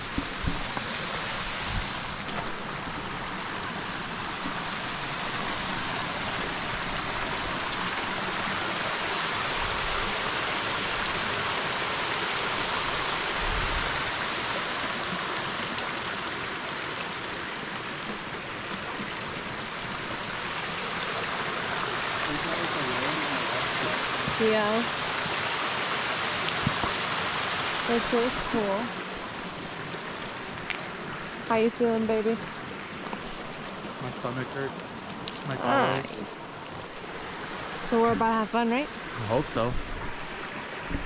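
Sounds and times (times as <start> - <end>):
small waterfall rushing: 0.0 - 41.0.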